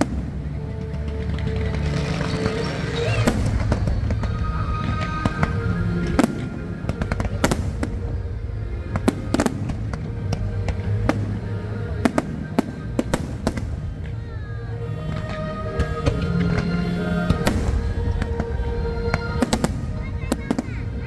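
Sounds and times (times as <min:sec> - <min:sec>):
fireworks cracks and bangs: 0:00.0 - 0:14.4, 0:17.3 - 0:21.0
music playing: 0:00.0 - 0:21.0.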